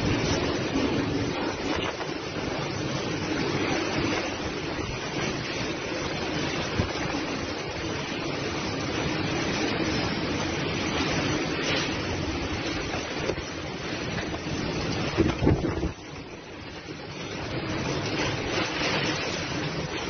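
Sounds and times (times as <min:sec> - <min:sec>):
wind and heavy rain rushing: 0:00.0 - 0:20.0.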